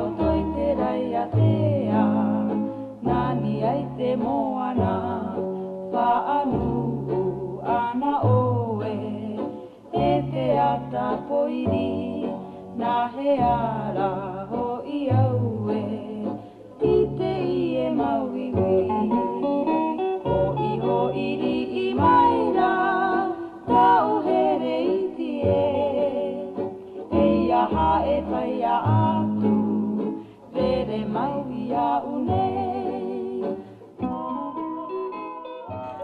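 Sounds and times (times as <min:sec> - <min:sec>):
person singing: 0:00.0 - 0:36.0
plucked string accompaniment: 0:00.0 - 0:36.0.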